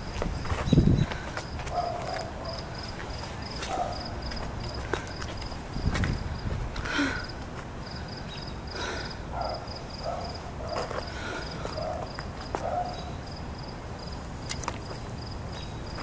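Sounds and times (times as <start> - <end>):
cricket chirping: 0.3 - 16.0.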